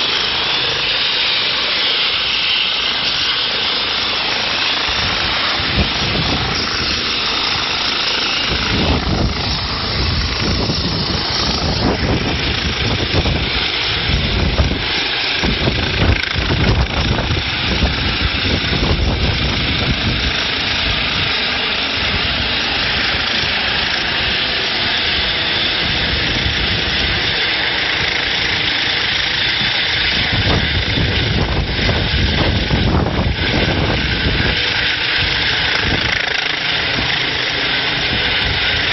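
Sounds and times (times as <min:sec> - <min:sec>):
helicopter flying: 0:00.0 - 0:38.9.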